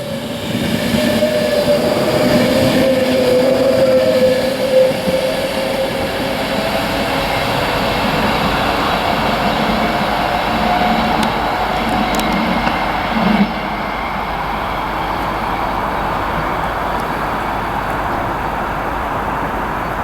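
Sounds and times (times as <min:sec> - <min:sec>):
train rushing along track: 0:00.0 - 0:20.0.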